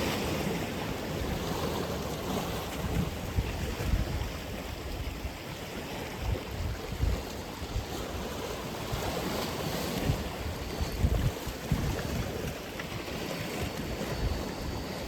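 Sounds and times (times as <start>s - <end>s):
ocean surf washing ashore: 0.0s - 15.0s
wind rumbling on microphone: 0.0s - 15.0s.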